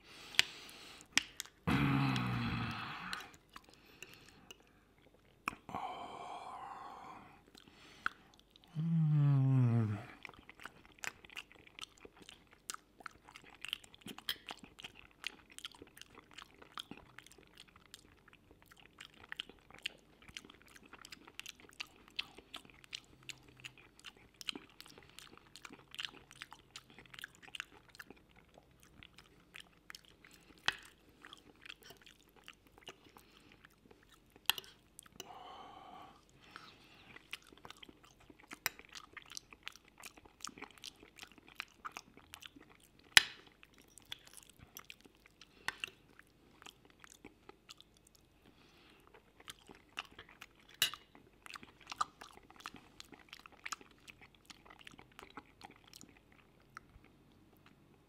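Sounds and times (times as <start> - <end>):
chewing with wet mouth sounds: 0.0 - 5.8, 7.0 - 58.0.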